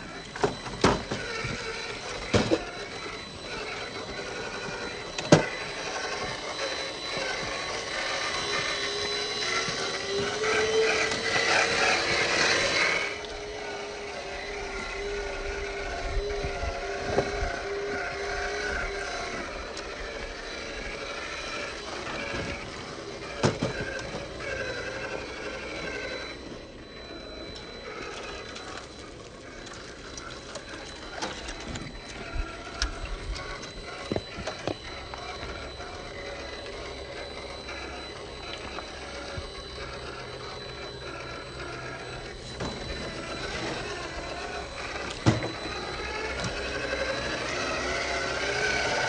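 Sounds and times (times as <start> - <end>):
toy car electric motor whining: 0.0 - 49.0.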